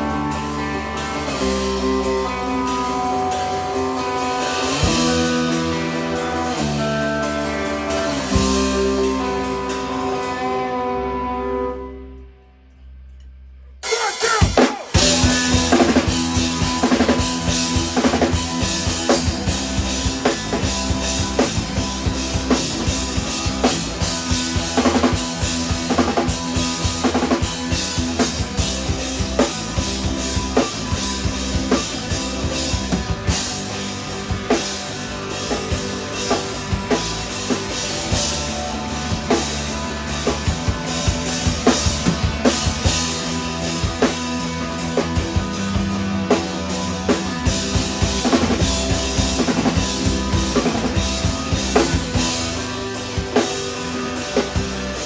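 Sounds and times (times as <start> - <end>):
loud drum kit: 0.0 - 11.2, 13.8 - 55.0
instrumental rock band playing: 0.0 - 12.4, 13.8 - 55.0.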